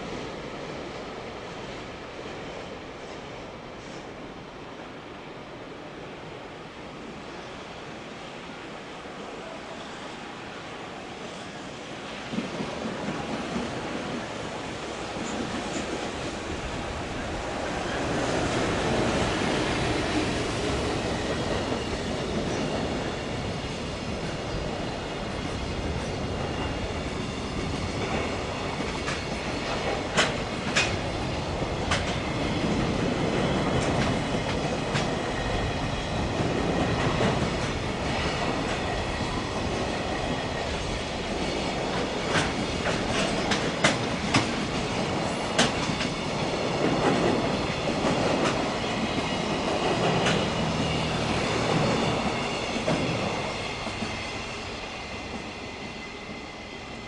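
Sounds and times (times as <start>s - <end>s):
train wheels rumbling on rail: 8.5s - 57.0s.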